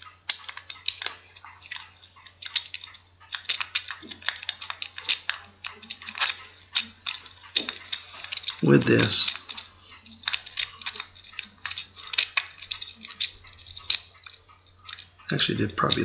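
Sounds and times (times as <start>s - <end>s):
lock pick raking metal clicks: 0.0s - 16.0s.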